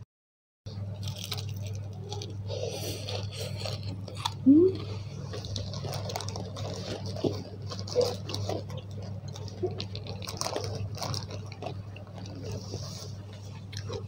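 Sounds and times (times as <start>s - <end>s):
biting and chewing food: 0.7s - 14.0s
steady low hum: 0.7s - 14.0s.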